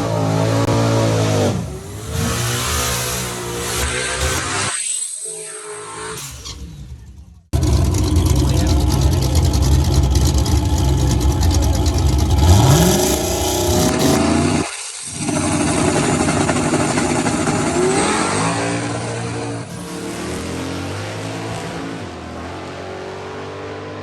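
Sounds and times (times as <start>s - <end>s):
race car engine revving: 0.0s - 4.7s, 7.0s - 24.0s.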